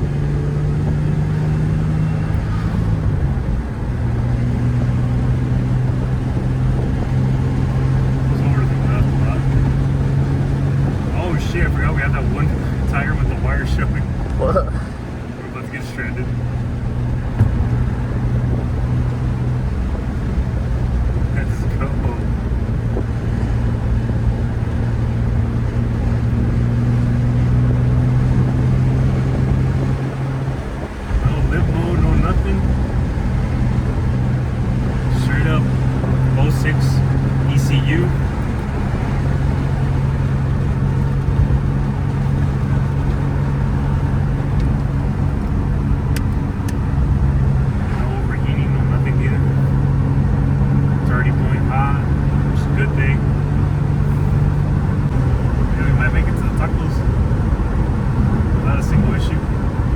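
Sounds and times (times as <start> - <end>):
car engine droning: 0.0 - 59.9
low road noise: 0.0 - 59.9.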